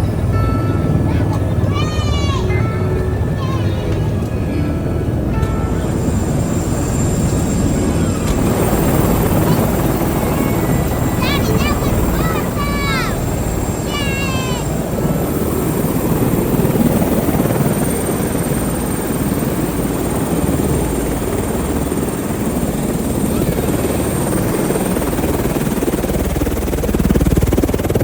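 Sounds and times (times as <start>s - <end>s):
helicopter rotor and engine noise: 0.0s - 28.0s
high turbine whine: 0.0s - 28.0s.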